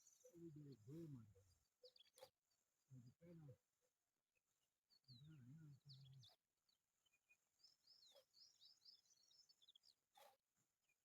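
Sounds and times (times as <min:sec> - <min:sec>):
faint bird chirping: 0:00.0 - 0:03.6, 0:04.4 - 0:11.0.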